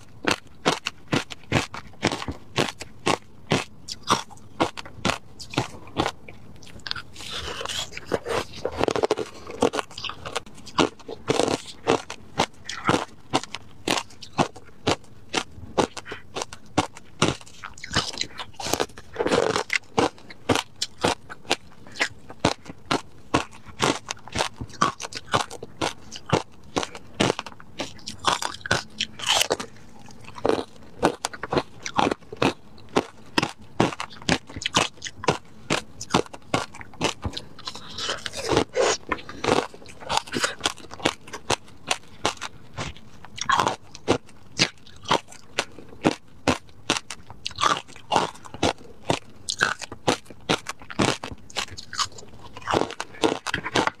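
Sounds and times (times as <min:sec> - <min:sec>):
crunching and chewing ice: 0:00.0 - 0:54.0.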